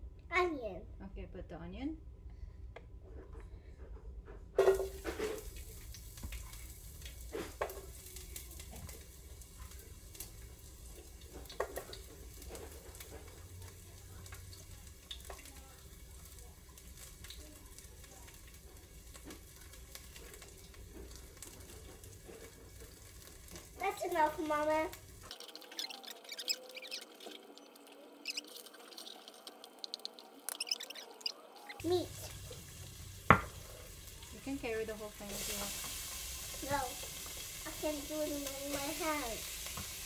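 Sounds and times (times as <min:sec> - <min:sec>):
onion sizzling in hot oil: 0:04.6 - 0:40.0.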